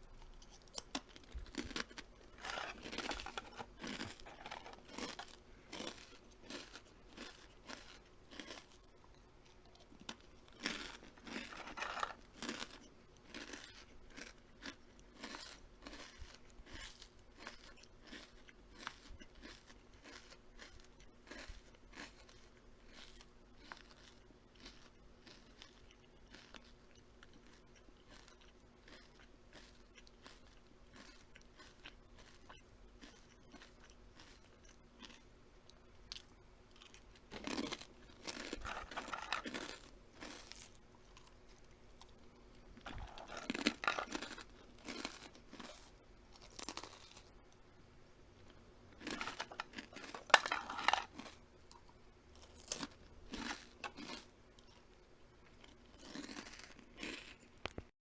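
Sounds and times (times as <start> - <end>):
crunching and chewing food: 0.0 - 57.9.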